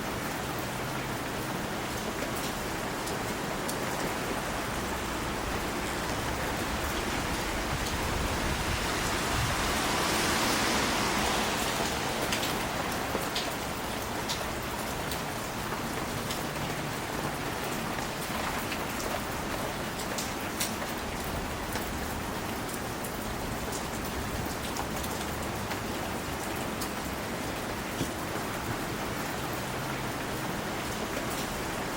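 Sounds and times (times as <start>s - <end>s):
steady rain hiss: 0.0s - 31.9s.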